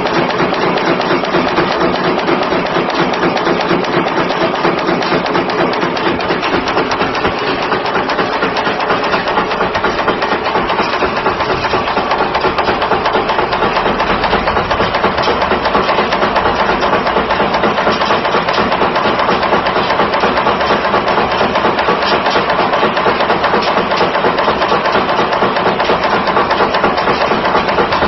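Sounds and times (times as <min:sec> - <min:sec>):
nail making machine clattering: 0:00.0 - 0:28.0.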